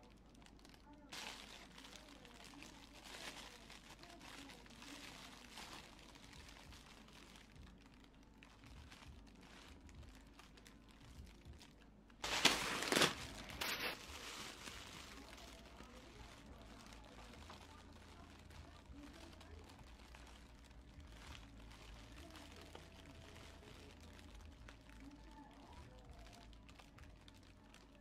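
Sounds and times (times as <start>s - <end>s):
plastic bag crinkling: 0.0s - 28.0s.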